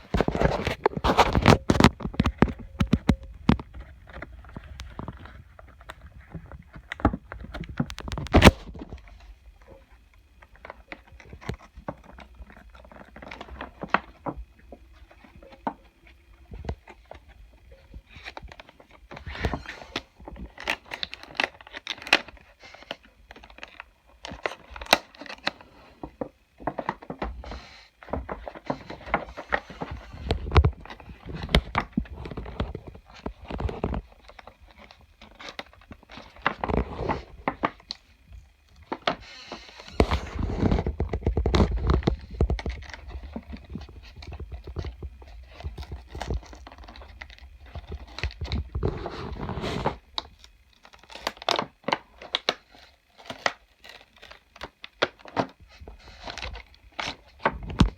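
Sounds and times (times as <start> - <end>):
packaging crinkling and tearing: 0.0 - 57.9.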